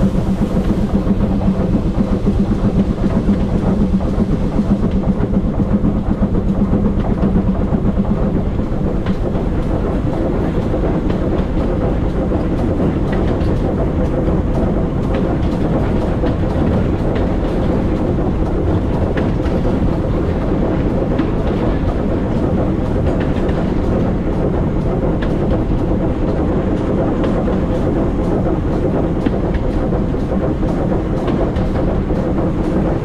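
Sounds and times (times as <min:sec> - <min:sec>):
steady hum: 0:00.0 - 0:33.0
train wheels rumbling on rails: 0:00.0 - 0:33.0.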